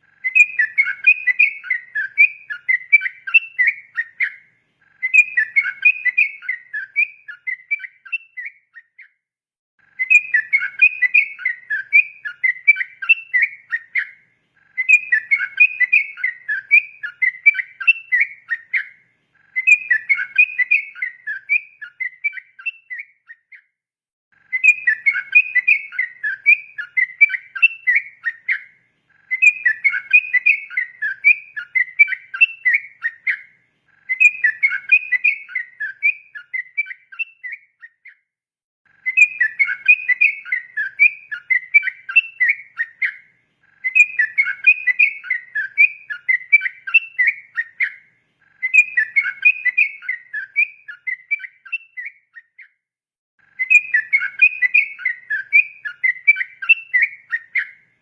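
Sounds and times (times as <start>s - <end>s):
bird singing whistled notes: 0.0s - 9.2s, 9.8s - 23.8s, 24.4s - 38.3s, 38.9s - 52.8s, 53.4s - 58.0s.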